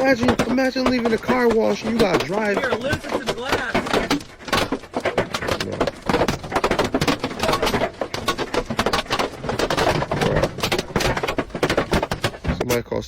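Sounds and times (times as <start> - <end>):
hailstones pelting windshield glass: 0.0 - 12.8.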